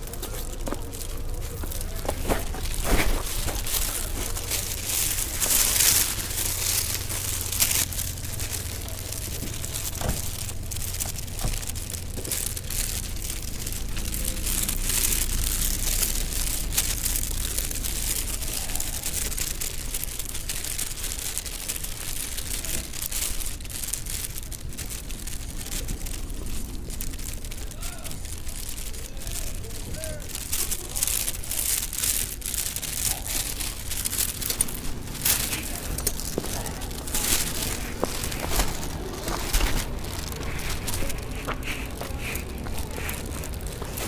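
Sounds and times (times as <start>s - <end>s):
footsteps in wet slushy mud: 0.0s - 44.0s
low rumble: 0.0s - 44.0s.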